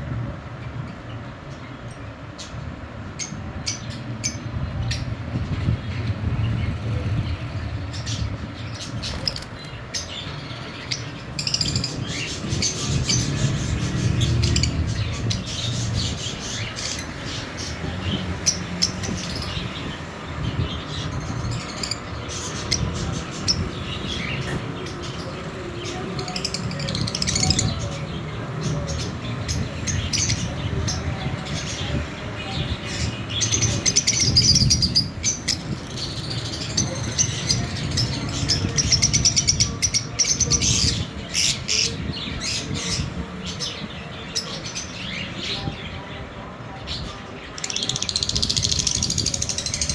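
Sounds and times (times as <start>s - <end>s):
lovebirds chirping: 0.0s - 49.9s.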